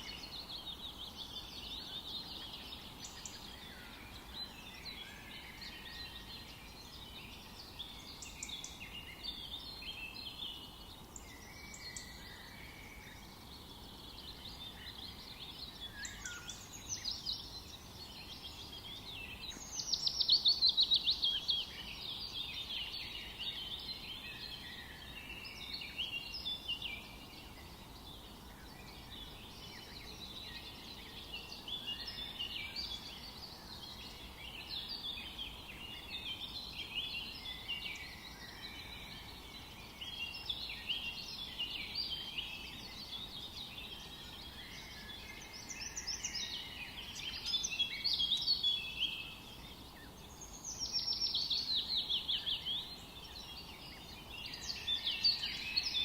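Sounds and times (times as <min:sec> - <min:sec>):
birds singing: 0:00.0 - 0:56.0
faint steady background hiss: 0:00.0 - 0:56.0.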